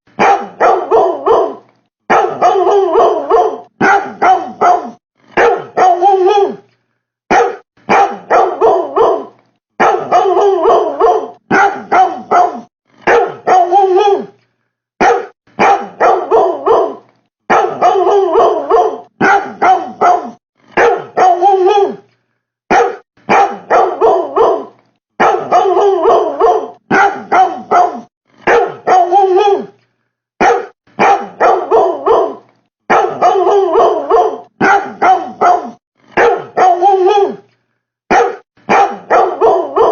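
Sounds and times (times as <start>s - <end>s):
dog barking: 0.2s - 6.6s, 7.3s - 14.3s, 15.0s - 22.0s, 22.7s - 29.7s, 30.4s - 37.4s, 38.1s - 39.9s.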